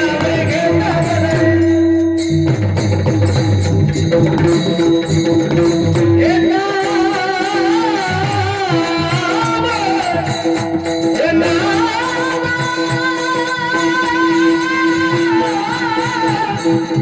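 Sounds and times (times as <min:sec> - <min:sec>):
man singing ornamented notes: 0:00.0 - 0:02.6, 0:05.4 - 0:17.0
rhythmic drumming: 0:00.0 - 0:17.0.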